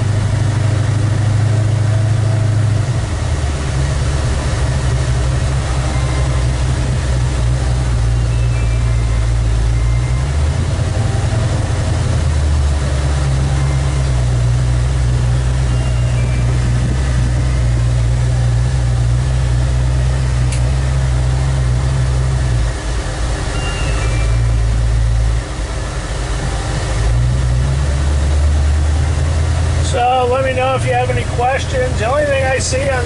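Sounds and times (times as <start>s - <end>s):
car engine droning: 0.0s - 33.0s.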